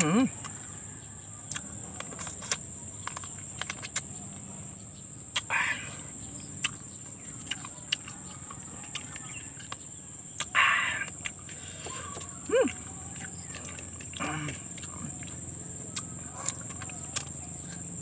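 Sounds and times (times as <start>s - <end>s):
chewing and lip smacking: 0.0s - 4.6s, 5.2s - 18.0s
high insect drone: 0.0s - 18.0s
slurping juicy fruit: 1.5s - 4.3s, 5.3s - 18.0s.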